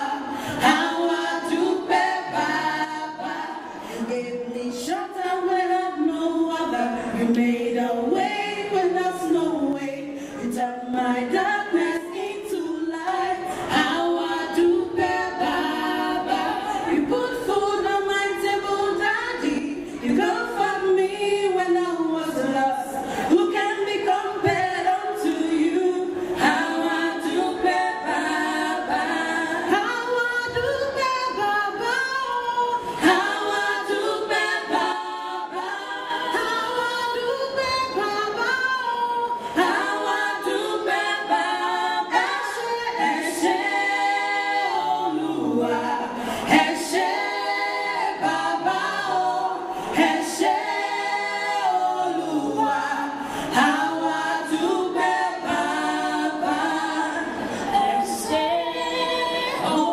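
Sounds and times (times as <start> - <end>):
women singing together: 0.0 - 59.9.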